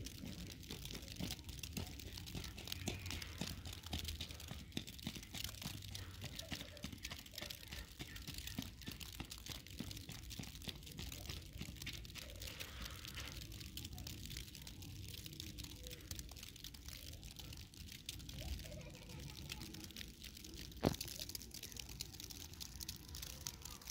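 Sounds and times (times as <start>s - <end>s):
snow crackling and ticking: 0.0s - 23.9s.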